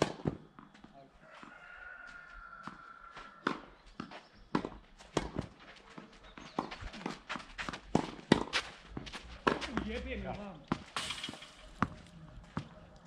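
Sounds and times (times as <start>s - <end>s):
footsteps on clay: 0.4s - 11.0s.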